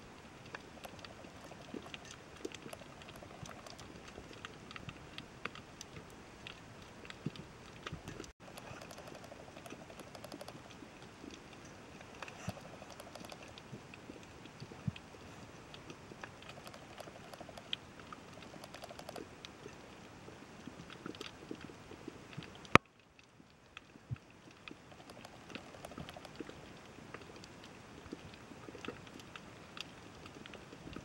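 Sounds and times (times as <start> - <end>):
underwater crackle of clicks: 0.4 - 20.0, 20.6 - 31.0.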